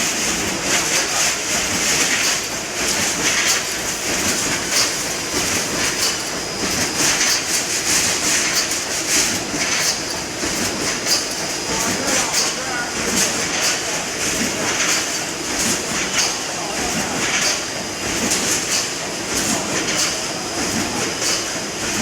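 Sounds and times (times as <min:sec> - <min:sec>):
welding machine rhythmic clatter: 0:00.0 - 0:22.0.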